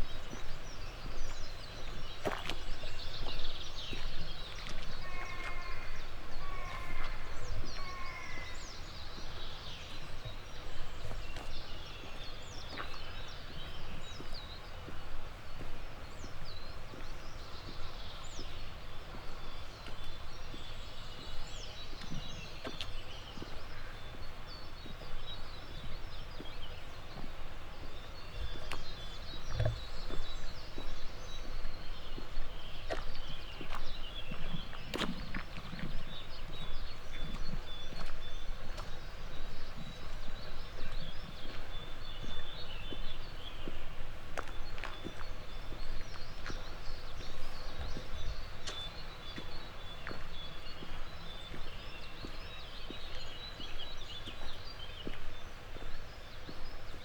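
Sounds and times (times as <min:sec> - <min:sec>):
birds singing and chirping: 0:00.2 - 0:14.6, 0:19.5 - 0:57.0.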